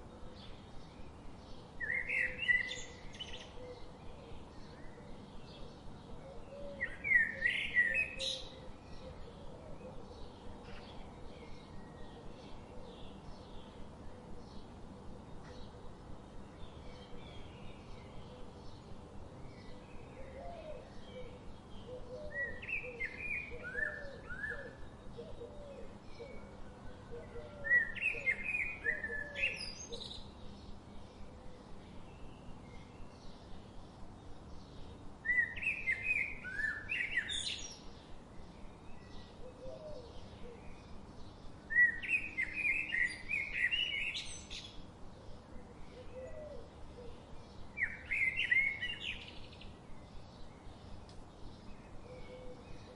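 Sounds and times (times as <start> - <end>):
background hiss: 0.0 - 52.9
songbird singing: 0.0 - 52.9.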